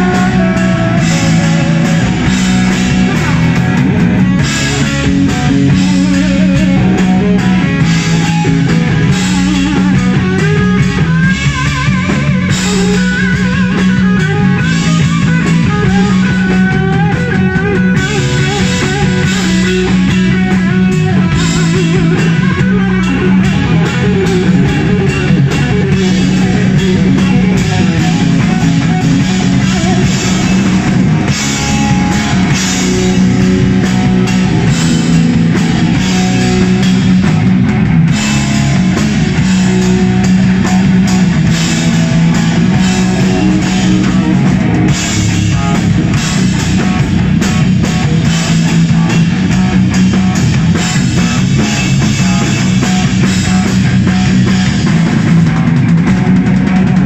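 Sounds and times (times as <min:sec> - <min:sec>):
drum kit: 0:00.0 - 0:57.0
electric bass: 0:00.0 - 0:57.0
lead electric guitar: 0:00.0 - 0:57.0.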